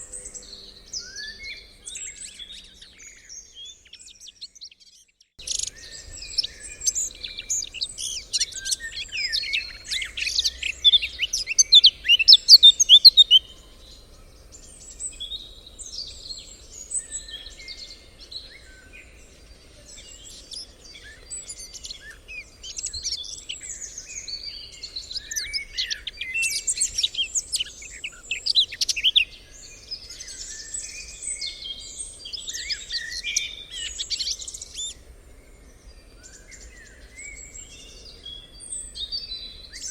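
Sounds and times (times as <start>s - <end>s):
forest birds chirping and trilling: 0.0s - 39.9s.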